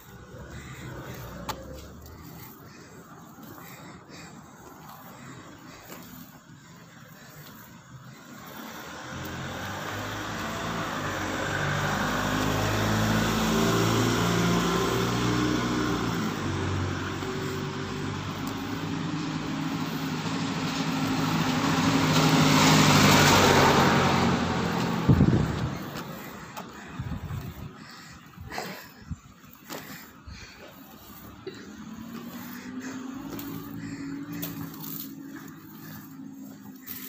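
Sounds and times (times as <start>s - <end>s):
tyre and road noise: 0.0s - 37.0s
vehicle engine passing: 0.0s - 37.0s.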